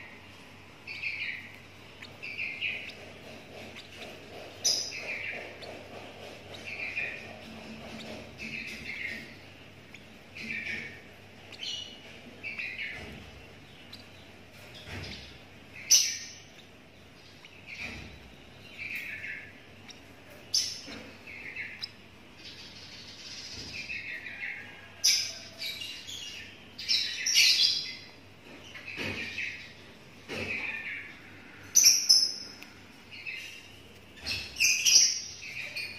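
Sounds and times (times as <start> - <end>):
lovebird chick chirping: 0.0 - 35.9.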